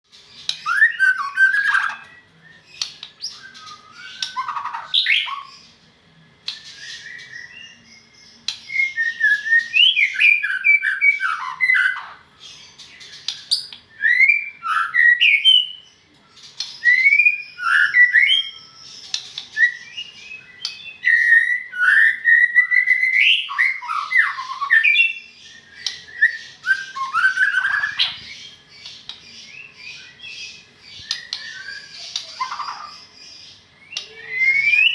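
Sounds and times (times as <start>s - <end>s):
bird singing whistled phrases: 0.5s - 5.6s, 6.5s - 12.2s, 13.3s - 15.9s, 16.6s - 28.6s, 29.4s - 33.1s, 33.8s - 34.9s.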